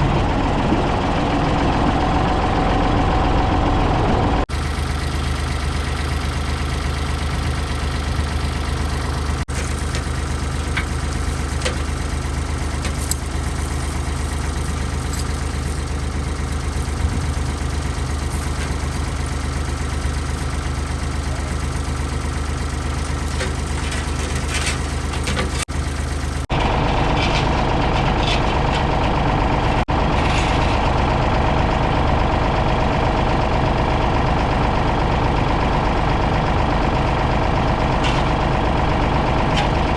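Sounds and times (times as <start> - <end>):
backhoe loader engine running: 0.0 - 39.9.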